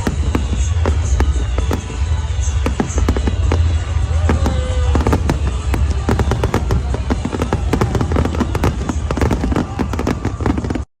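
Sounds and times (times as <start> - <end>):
fireworks crackling and popping: 0.0 - 10.9.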